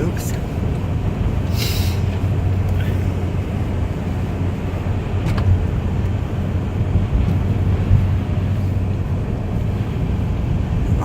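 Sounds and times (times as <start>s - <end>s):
car driving drone inside cabin: 0.0s - 11.0s.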